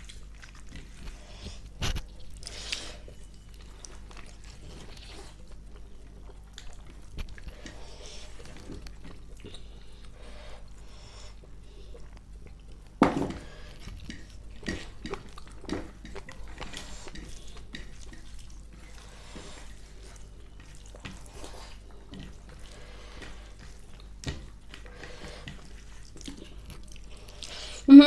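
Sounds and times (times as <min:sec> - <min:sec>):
wet chewing: 0:00.0 - 0:27.9.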